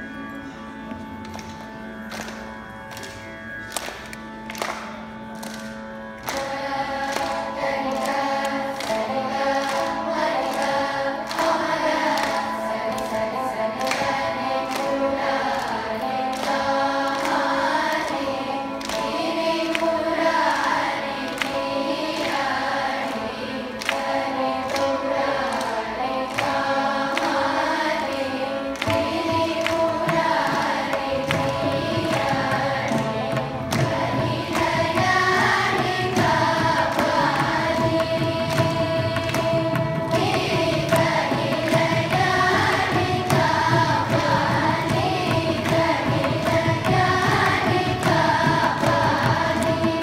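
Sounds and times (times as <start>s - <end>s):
children's choir singing: 5.4s - 50.0s.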